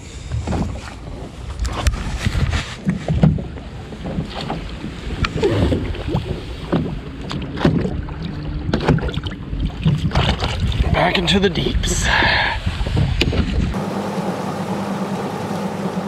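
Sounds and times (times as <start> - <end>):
wind buffeting microphone: 0.0 - 13.9
water lapping against boat: 0.0 - 16.0.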